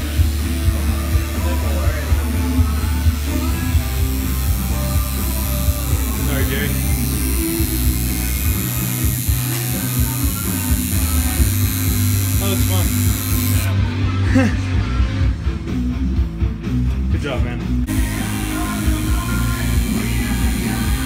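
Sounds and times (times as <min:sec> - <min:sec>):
tattoo machine buzzing: 0:00.0 - 0:13.8, 0:17.9 - 0:21.0.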